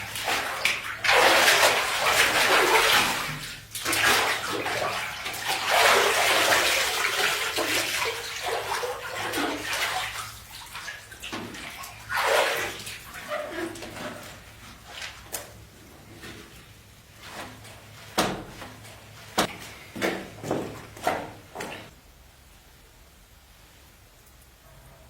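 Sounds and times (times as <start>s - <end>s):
water pouring and splashing: 0.0s - 21.9s.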